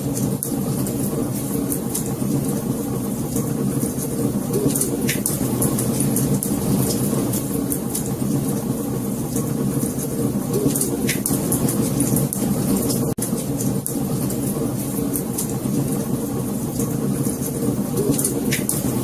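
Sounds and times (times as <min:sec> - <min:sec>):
low rumble of burning: 0:00.0 - 0:19.0
wood fire crackling and popping: 0:00.0 - 0:19.0.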